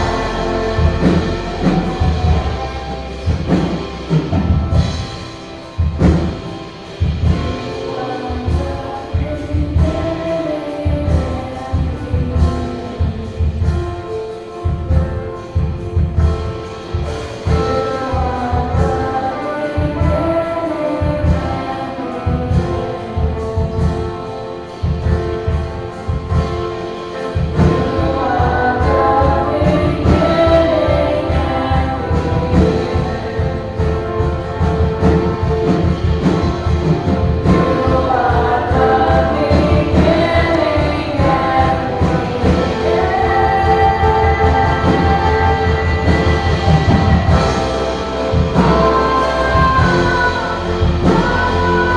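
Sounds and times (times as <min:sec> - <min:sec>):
person singing: 0:00.0 - 0:14.9, 0:17.4 - 0:51.9
worship band playing: 0:00.0 - 0:51.9.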